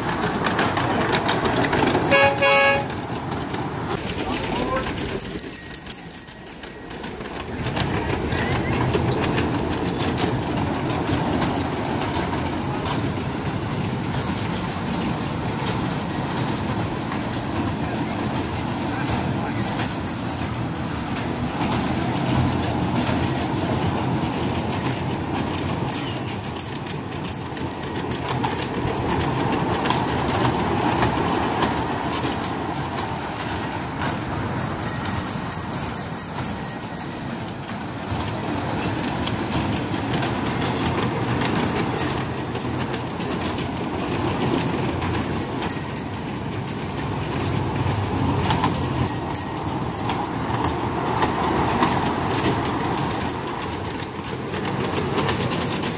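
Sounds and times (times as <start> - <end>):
kiddie train rumbling on track: 0.0 - 55.9.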